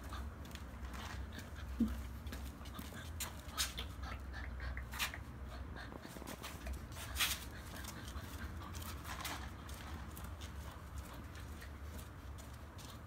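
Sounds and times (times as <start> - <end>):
scuffing on tile paving: 0.1 - 3.8, 6.2 - 13.0.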